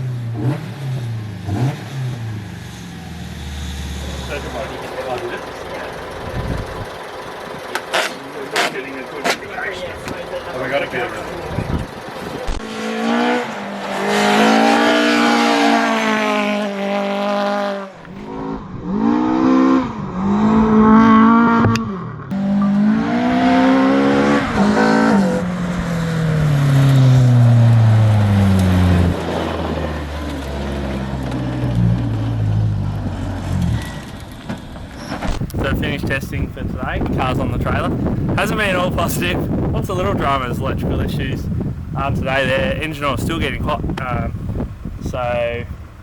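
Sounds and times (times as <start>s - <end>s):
rally car engine revving: 0.0s - 46.0s.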